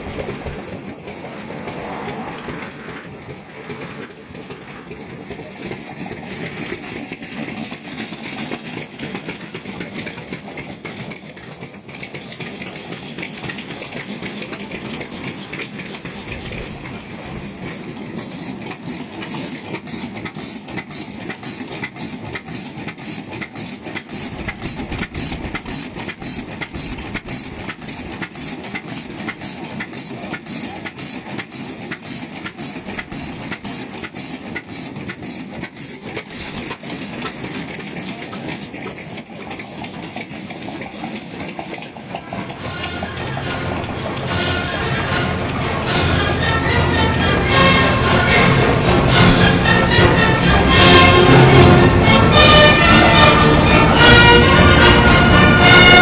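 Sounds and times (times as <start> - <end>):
engine mechanical clatter: 0.0 - 56.0.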